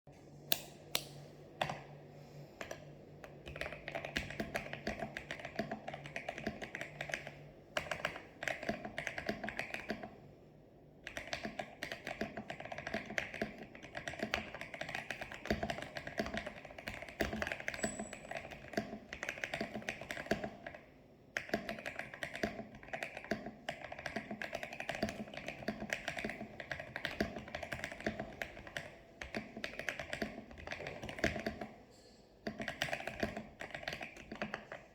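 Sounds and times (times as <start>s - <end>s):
mechanical keyboard typing: 2.6s - 10.2s, 11.0s - 31.8s, 32.4s - 34.9s.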